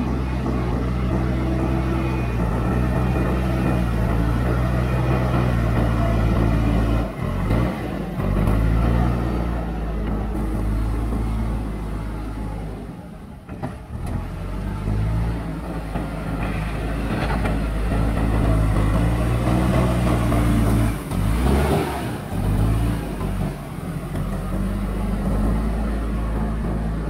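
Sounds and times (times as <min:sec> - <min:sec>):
diesel engine working under load: 0:00.0 - 0:27.0.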